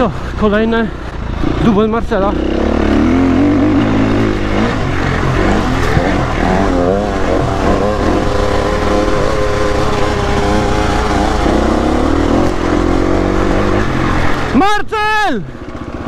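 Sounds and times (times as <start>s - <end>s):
motorcycle engine revving: 0.0s - 14.6s, 15.5s - 16.0s.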